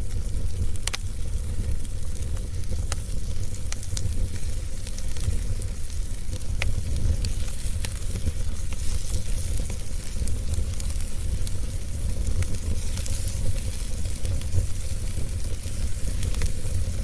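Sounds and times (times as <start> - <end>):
sharp pops from fire: 0.0 - 17.0
wood fire crackling: 0.0 - 17.0.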